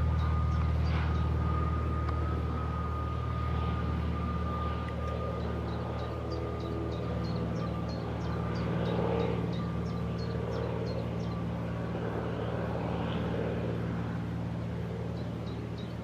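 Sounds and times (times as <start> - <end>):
aircraft engine running: 0.0 - 16.0.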